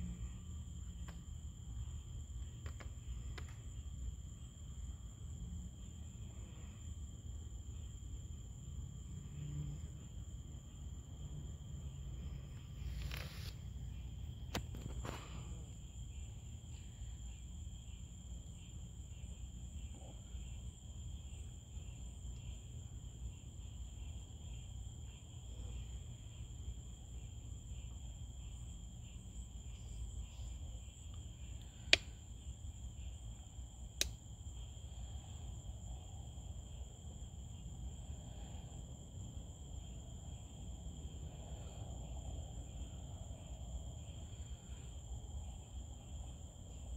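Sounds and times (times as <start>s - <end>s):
crickets trilling: 0.0s - 46.9s.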